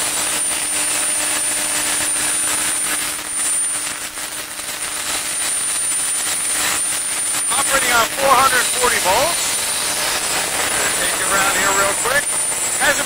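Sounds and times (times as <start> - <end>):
air compressor humming: 0.0 - 13.0
high thin whine: 0.0 - 13.0.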